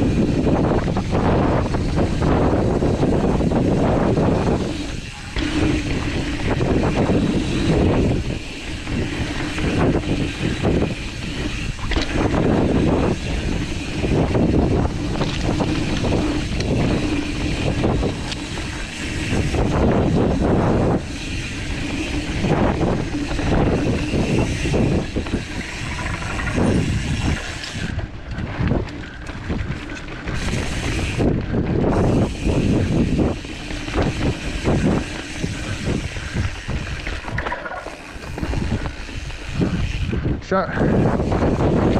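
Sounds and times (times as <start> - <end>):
bike knocks and rattles: 0.0 - 40.4
tyres rumbling on dirt: 0.0 - 41.9
wind buffeting microphone: 0.0 - 41.9.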